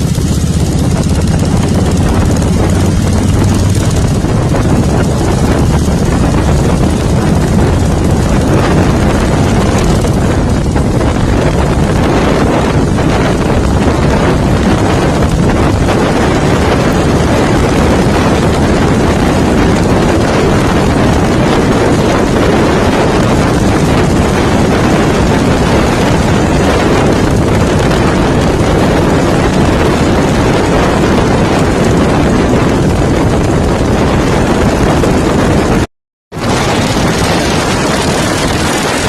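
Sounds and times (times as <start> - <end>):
motorcycle engine running: 0.0 - 39.0
wind on microphone: 0.0 - 39.0.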